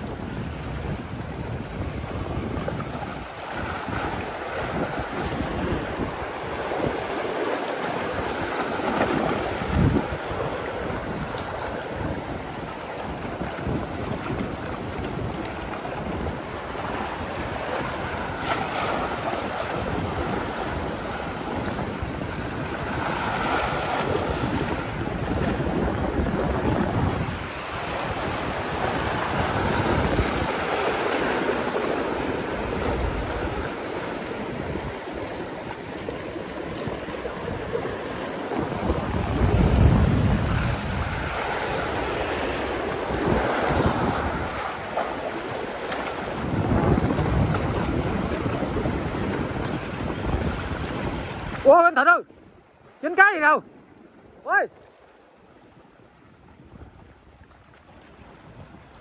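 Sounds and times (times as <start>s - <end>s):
waves washing against rocks: 0.0s - 52.1s
wind buffeting microphone: 0.0s - 54.8s, 55.4s - 59.0s.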